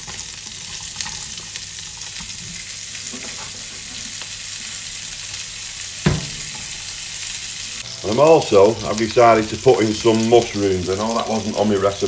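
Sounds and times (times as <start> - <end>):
onion sizzling in a frying pan: 0.0 - 12.0.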